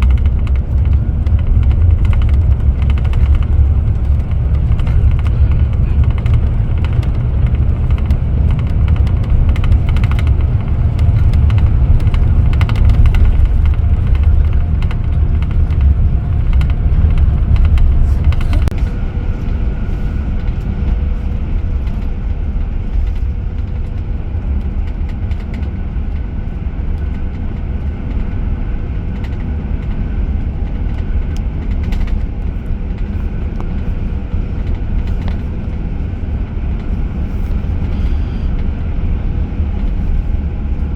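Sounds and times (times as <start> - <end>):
coach engine and road rumble: 0.0 - 40.9.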